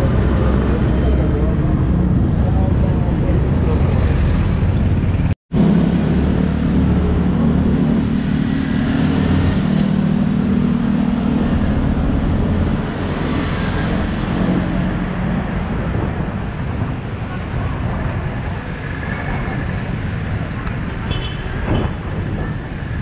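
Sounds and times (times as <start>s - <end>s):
motorcycle engines humming: 0.0s - 23.0s
street noise: 0.0s - 23.0s.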